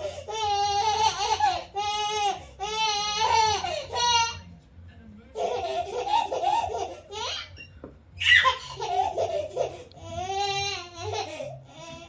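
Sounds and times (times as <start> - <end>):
baby laughing: 0.0 - 4.4, 5.4 - 7.6, 8.2 - 12.0.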